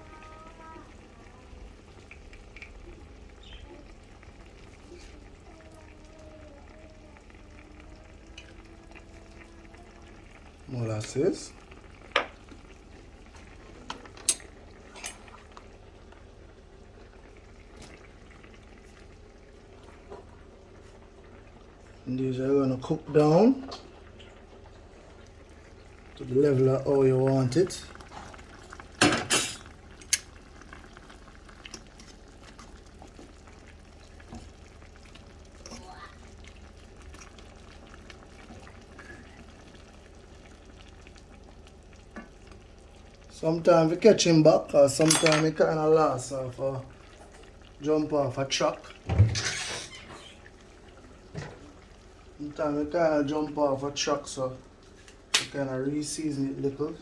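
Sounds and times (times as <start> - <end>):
food simmering in a pot: 0.0 - 57.0.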